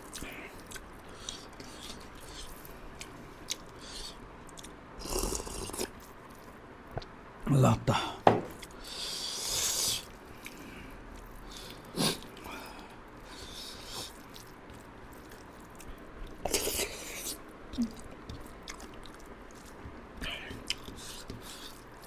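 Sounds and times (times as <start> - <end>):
person chewing and slurping: 0.0 - 6.6, 8.5 - 22.0.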